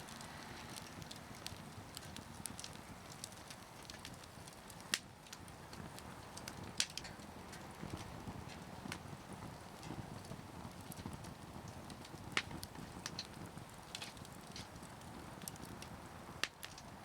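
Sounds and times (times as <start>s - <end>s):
firewood crackling: 0.0s - 17.0s
firewood popping: 0.0s - 17.0s.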